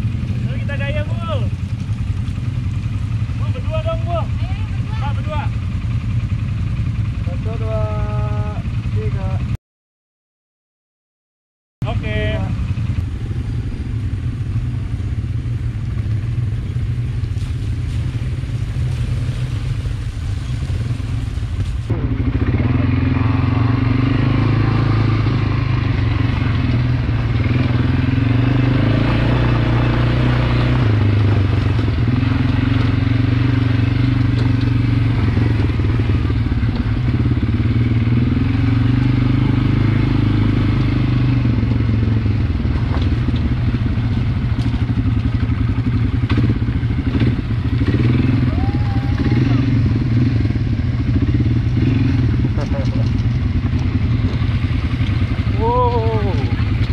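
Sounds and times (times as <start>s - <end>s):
quad bike engine running: 0.0s - 9.6s, 11.8s - 56.9s.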